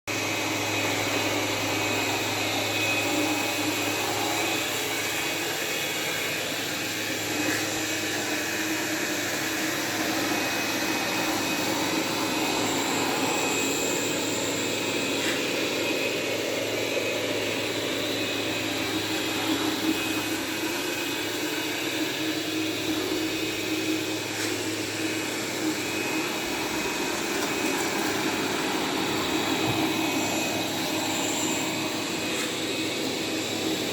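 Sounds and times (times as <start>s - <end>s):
robot vacuum whirring: 0.1s - 33.9s.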